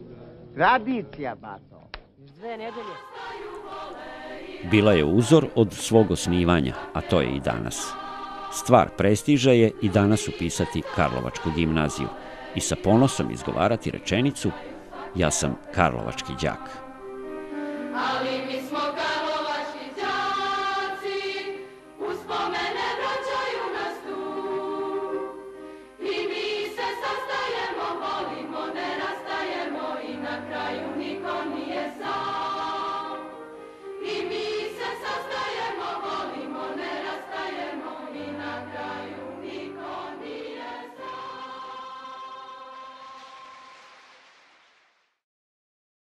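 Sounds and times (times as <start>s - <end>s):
choir singing: 2.4s - 43.7s.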